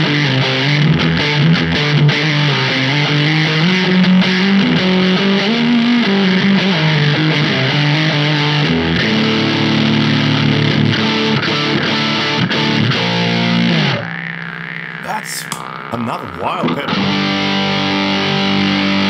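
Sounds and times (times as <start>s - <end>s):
electric guitar melodic line: 0.0s - 19.0s.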